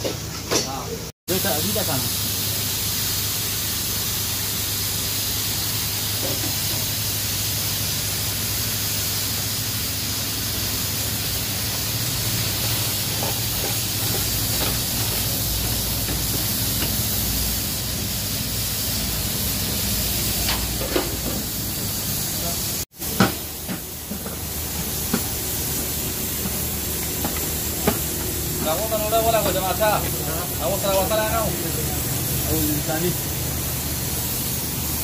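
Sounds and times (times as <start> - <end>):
low burner hum: 0.0 - 35.0
pressure cooker hissing: 0.0 - 35.0.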